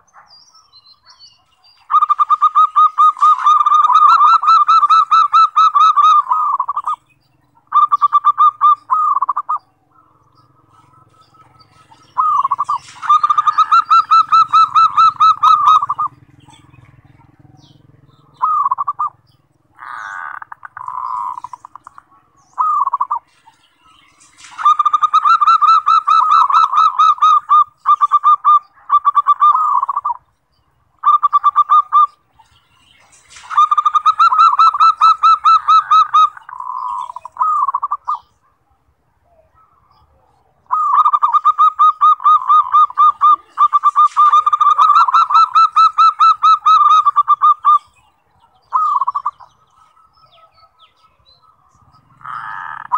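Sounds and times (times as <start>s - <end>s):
dove cooing in trills: 1.7s - 30.3s, 31.0s - 38.6s, 39.2s - 52.9s.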